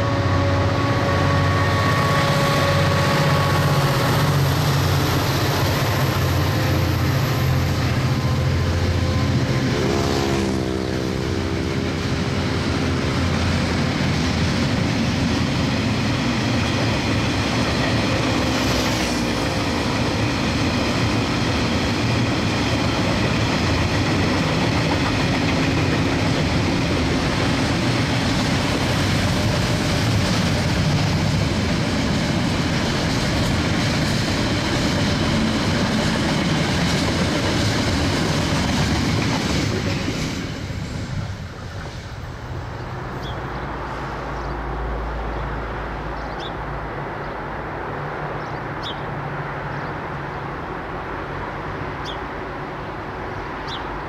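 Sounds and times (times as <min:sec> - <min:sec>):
diesel locomotive engine: 0:00.0 - 0:54.0
train rolling: 0:00.0 - 0:54.0.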